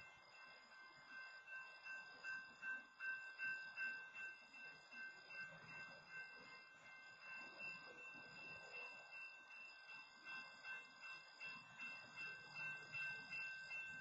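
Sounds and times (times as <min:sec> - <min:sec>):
railroad crossing bell ringing: 0:00.0 - 0:14.0.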